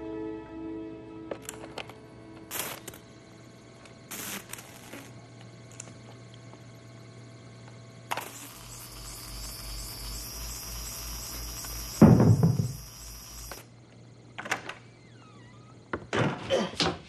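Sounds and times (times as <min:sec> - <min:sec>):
faint high whine: 0:00.0 - 0:16.1
electric hum with pulsing: 0:01.4 - 0:16.0.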